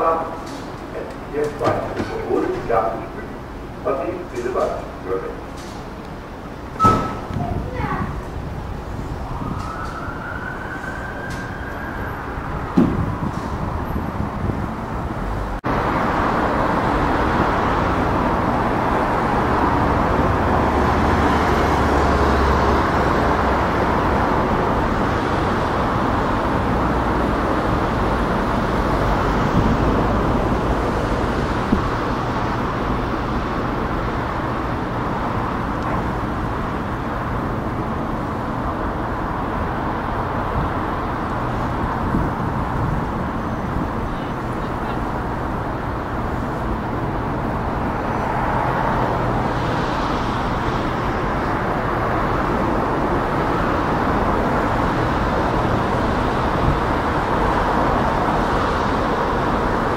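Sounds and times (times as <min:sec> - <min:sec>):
road traffic rumble and hiss: 0:00.0 - 0:59.9.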